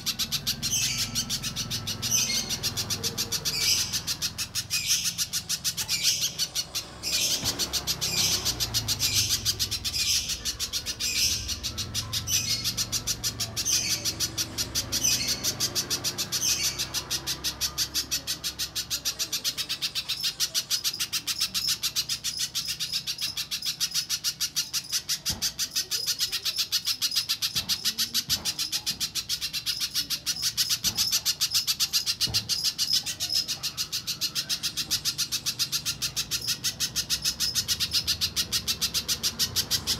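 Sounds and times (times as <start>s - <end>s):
bird chattering high notes: 0.0s - 39.9s
loud bird chirps: 0.0s - 39.9s.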